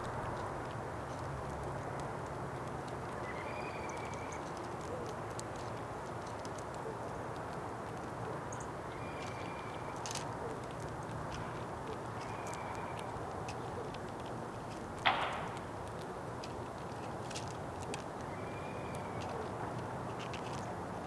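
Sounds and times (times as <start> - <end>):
birds pecking clicks: 0.0 - 21.0.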